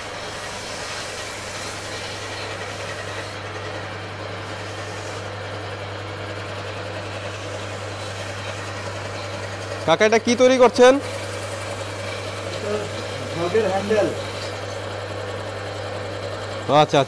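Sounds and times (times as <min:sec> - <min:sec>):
scroll saw humming: 0:00.0 - 0:17.0.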